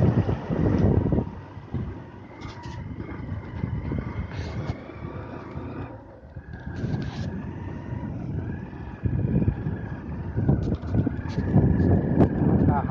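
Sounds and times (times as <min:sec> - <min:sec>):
motorcycle engine rumbling: 0:00.0 - 0:12.9
thin engine whine: 0:00.0 - 0:12.9.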